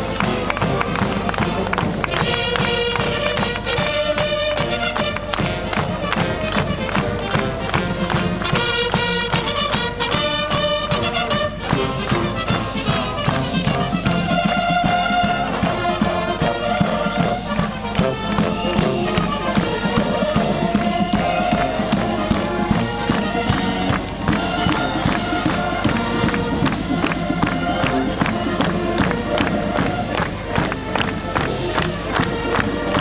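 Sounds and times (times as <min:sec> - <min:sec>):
brass playing march: 0:00.0 - 0:33.0
steady drum beat: 0:00.0 - 0:33.0.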